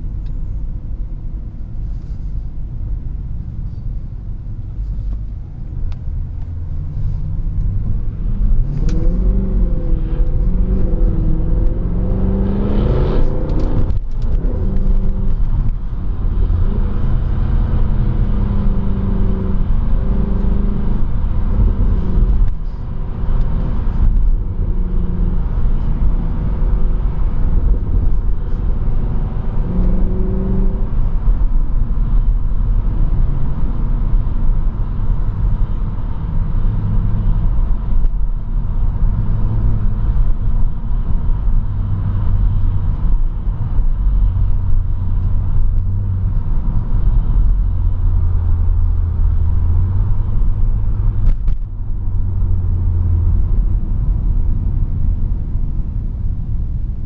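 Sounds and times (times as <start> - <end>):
car engine inside cabin: 0.0 - 57.0.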